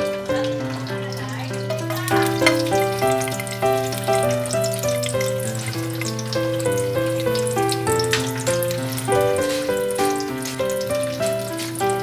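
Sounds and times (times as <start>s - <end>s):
garlic sizzling in oil: 0.0s - 12.0s
instrumental background music: 0.0s - 12.0s.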